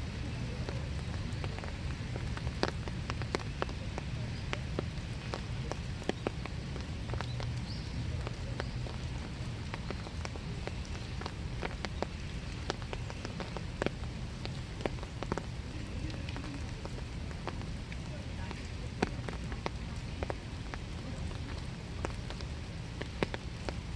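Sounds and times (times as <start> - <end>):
rain hissing: 0.0 - 23.9
raindrops ticking on surfaces: 0.0 - 23.9.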